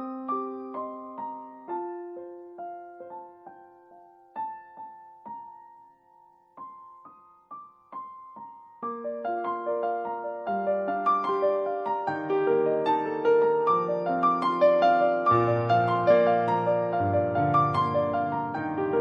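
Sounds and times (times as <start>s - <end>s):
soft solo piano: 0.0s - 19.0s.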